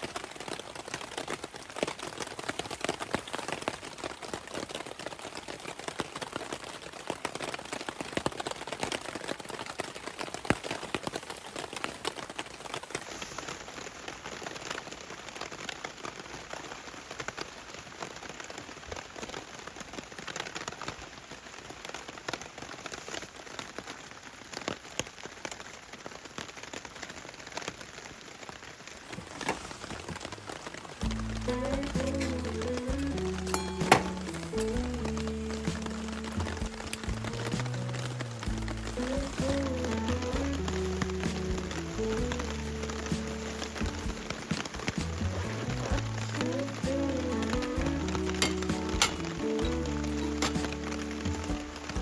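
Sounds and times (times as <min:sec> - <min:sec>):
rain patter: 0:00.0 - 0:52.0.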